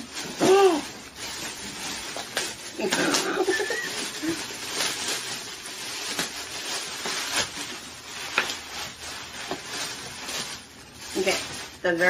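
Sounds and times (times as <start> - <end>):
packing paper rustling: 0.0 - 12.0
plastic bag crinkling: 0.0 - 12.0.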